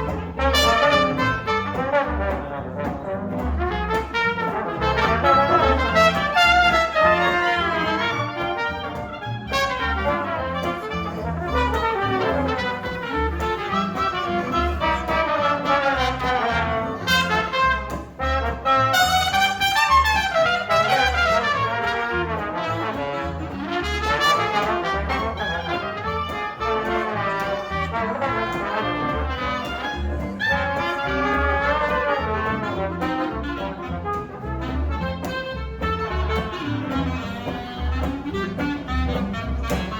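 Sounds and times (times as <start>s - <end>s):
bass line: 0.0s - 39.9s
brass horn melody: 0.0s - 39.9s
jazz band playing: 0.0s - 39.9s.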